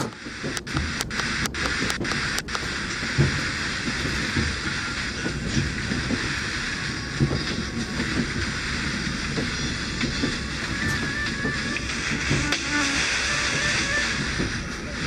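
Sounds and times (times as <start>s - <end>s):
hiss: 0.0s - 15.0s
train carriage rumble: 0.0s - 15.0s.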